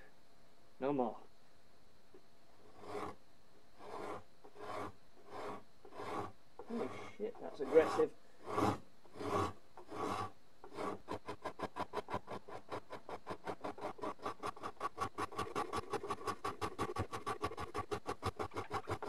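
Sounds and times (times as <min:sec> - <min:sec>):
rasp shaving wood: 0:02.6 - 0:03.2, 0:03.8 - 0:19.0.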